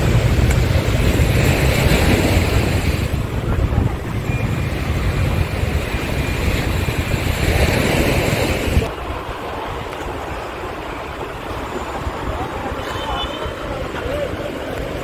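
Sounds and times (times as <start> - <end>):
waves washing against rocks: 0.0 - 4.2, 4.8 - 15.0
wind buffeting microphone: 0.0 - 12.9.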